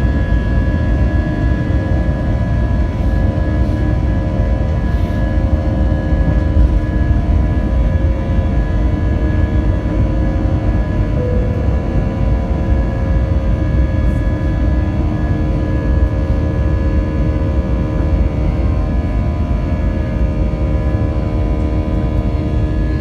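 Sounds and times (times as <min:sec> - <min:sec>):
jet engine rumble in cabin: 0:00.0 - 0:23.0
jet engine whining tones: 0:00.4 - 0:23.0.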